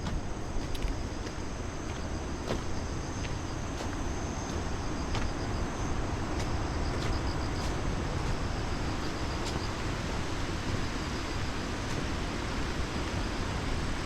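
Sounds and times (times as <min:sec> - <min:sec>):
faint insects chirping: 0:00.0 - 0:14.0.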